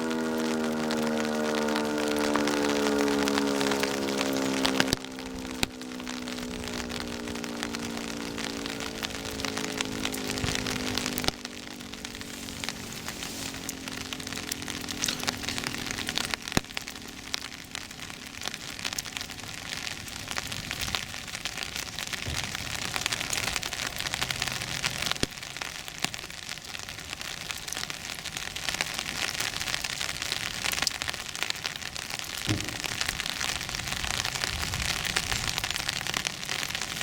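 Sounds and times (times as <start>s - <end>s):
rain falling on surfaces: 0.0s - 37.0s.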